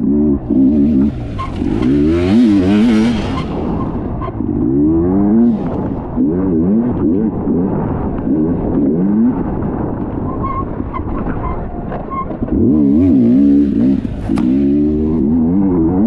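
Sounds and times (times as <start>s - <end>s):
dirt bike engine revving: 0.0s - 9.5s, 12.5s - 16.0s.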